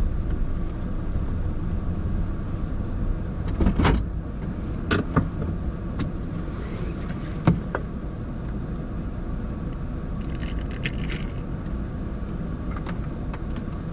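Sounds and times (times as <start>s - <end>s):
car cabin rumble: 0.0s - 13.9s.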